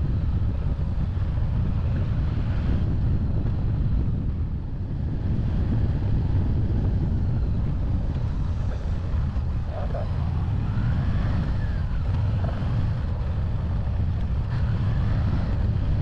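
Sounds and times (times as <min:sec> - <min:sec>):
motorcycle engine running: 0:00.0 - 0:16.0
wind rumbling on microphone: 0:00.0 - 0:16.0.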